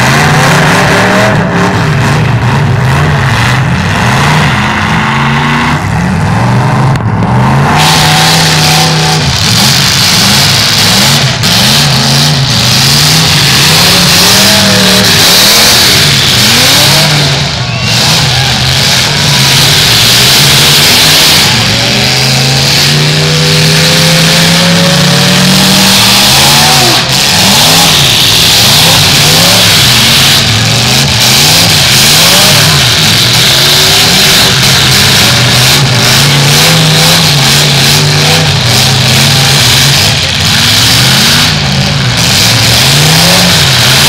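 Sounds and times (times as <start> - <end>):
car engines revving loudly: 0.0 - 44.0.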